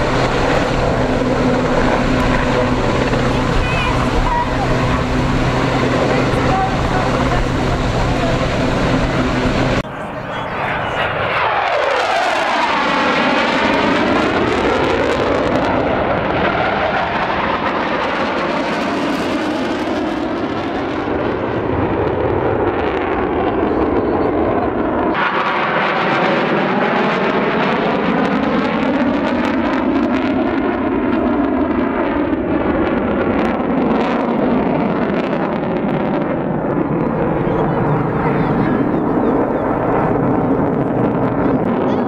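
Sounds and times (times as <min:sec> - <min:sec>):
jet aircraft flying past: 0:00.0 - 0:42.0.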